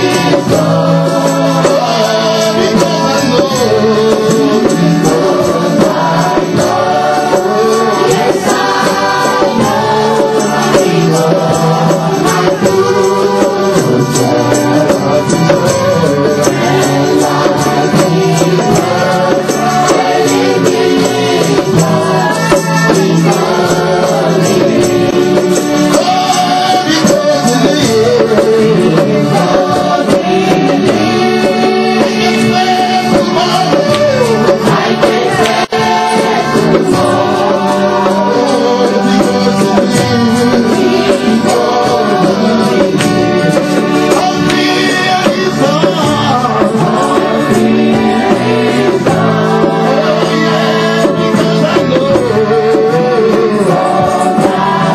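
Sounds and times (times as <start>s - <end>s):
church worship music: 0.0s - 54.9s
percussion: 0.0s - 54.9s
voices singing: 0.0s - 54.9s.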